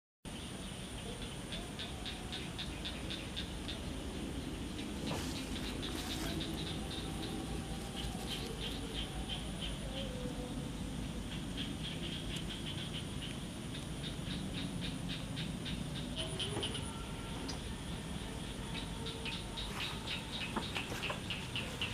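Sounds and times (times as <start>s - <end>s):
high-pitched drone: 1.6s - 12.5s, 15.2s - 21.9s.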